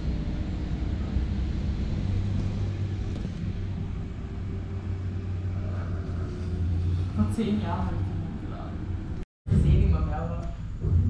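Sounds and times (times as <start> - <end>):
diesel engine droning: 0.0 - 9.2.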